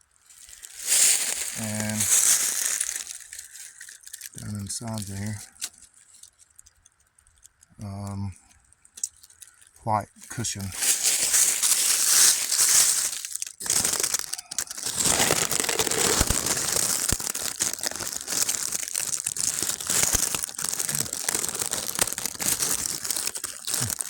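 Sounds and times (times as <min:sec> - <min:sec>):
frozen leaves crunching underfoot: 0:00.2 - 0:06.3, 0:09.0 - 0:24.0.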